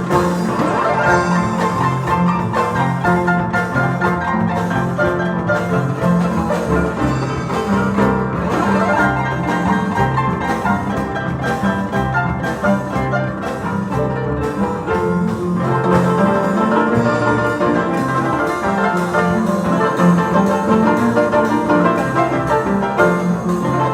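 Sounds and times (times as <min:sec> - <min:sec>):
harps playing lively piece: 0:00.0 - 0:23.9.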